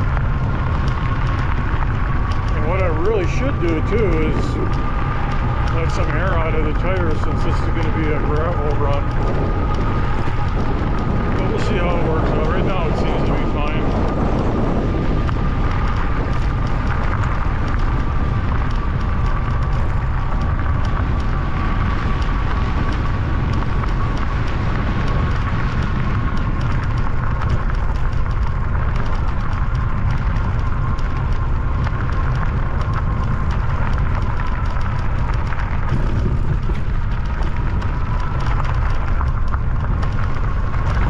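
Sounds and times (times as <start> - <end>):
hub motor whine: 0.0 - 41.0
tyres crackling on gravel: 0.0 - 41.0
wind rumbling on microphone: 0.0 - 41.0.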